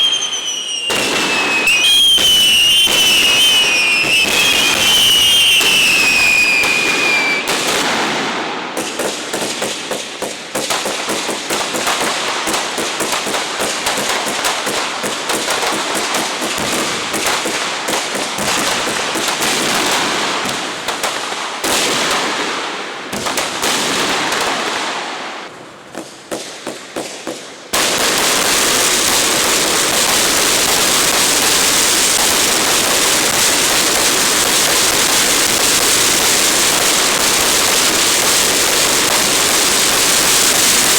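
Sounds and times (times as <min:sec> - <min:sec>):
fireworks crackling and popping: 0:00.0 - 0:40.9.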